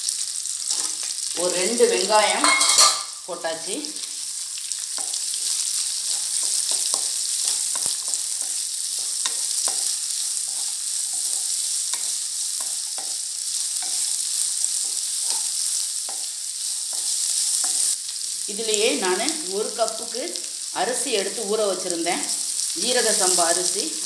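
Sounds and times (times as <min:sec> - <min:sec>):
onions and spices sizzling: 0:00.0 - 0:24.0.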